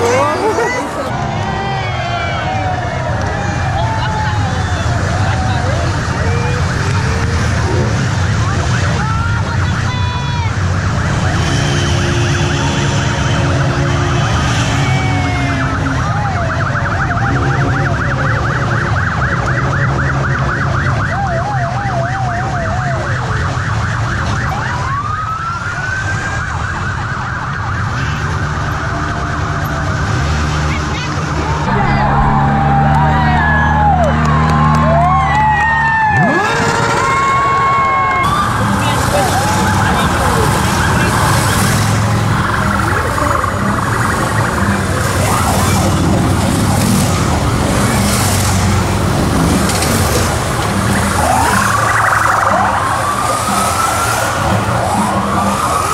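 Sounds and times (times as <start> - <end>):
motorcycle engines running: 0.0 - 55.9
police sirens wailing: 0.0 - 55.9.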